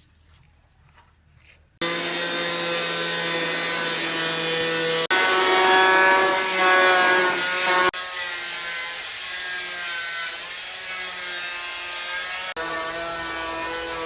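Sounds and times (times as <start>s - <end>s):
small motor tool whining: 1.8s - 14.0s.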